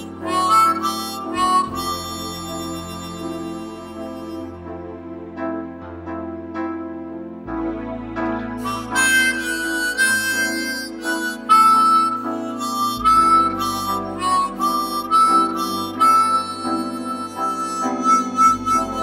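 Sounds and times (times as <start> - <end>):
slow reedy instrumental melody: 0.0 - 19.0.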